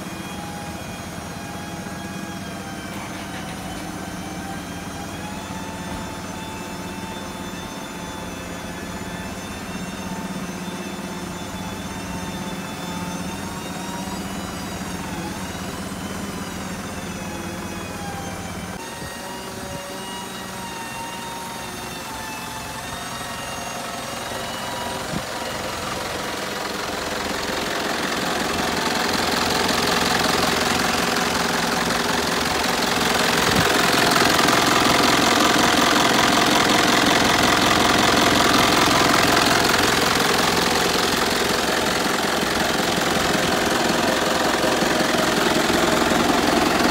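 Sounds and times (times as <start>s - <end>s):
diesel engine idling clatter: 0.0s - 18.7s, 22.8s - 46.9s.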